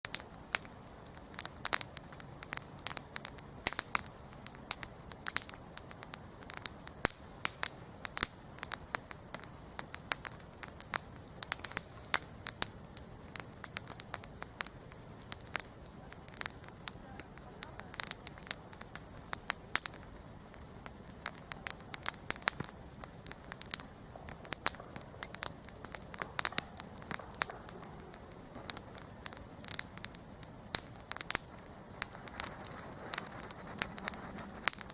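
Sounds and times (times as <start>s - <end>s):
campfire crackling: 0.0s - 34.9s.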